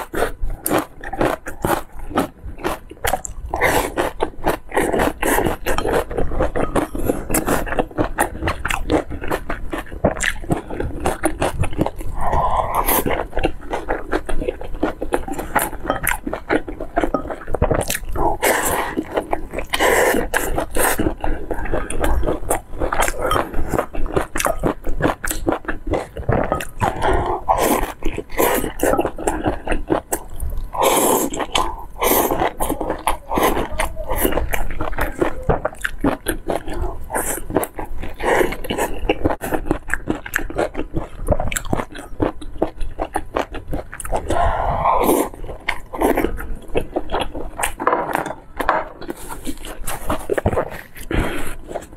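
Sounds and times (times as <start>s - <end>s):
person biting and chewing: 0.0s - 51.9s.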